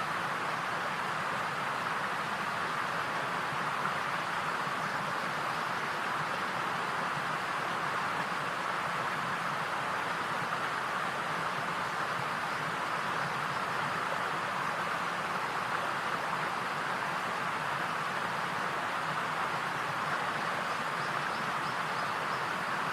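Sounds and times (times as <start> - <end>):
steady hiss: 0.0 - 22.9.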